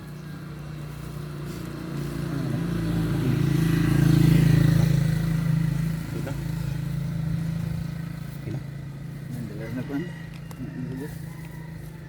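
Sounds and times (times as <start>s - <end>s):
vehicle engine approaching: 0.0s - 12.0s.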